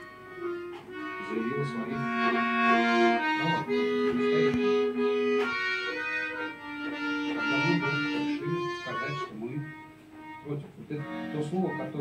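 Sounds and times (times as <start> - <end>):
accordion playing slow tune: 0.0 - 12.0.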